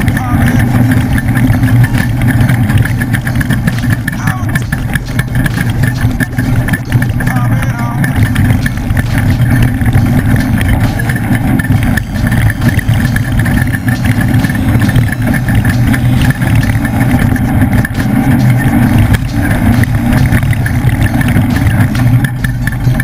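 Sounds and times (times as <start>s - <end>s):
knocks and rattles: 0.0s - 23.0s
truck engine rumbling: 0.0s - 23.0s.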